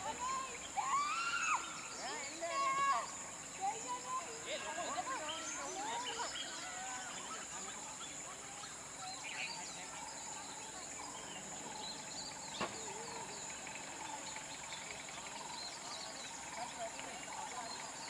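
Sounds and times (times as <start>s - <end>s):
birds chirping and calling: 0.0s - 18.0s
steady high-pitched hiss: 0.0s - 18.0s.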